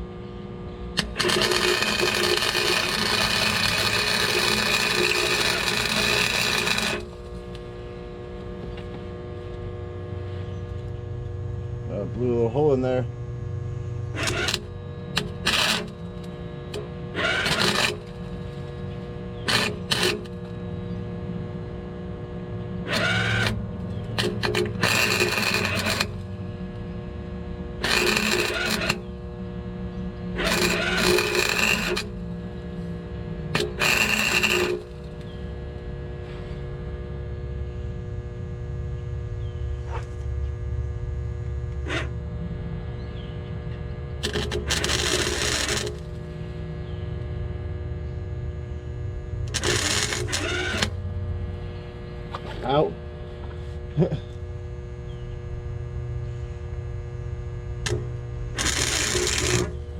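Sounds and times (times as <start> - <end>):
arc welding crackling: 0.0 - 42.7, 43.6 - 59.9
steady welder hum: 0.0 - 59.9.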